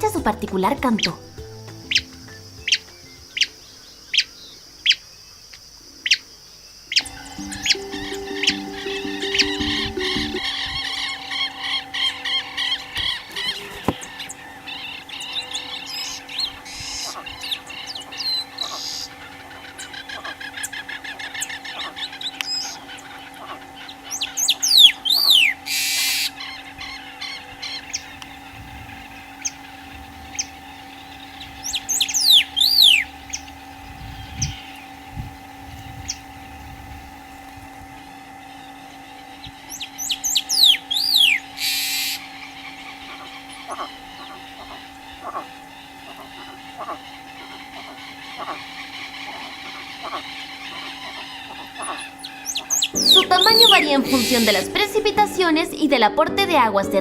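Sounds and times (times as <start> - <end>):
faint ticking bird calls: 0.0 - 55.2
bird singing: 0.0 - 55.7
steady low hum: 6.9 - 55.8.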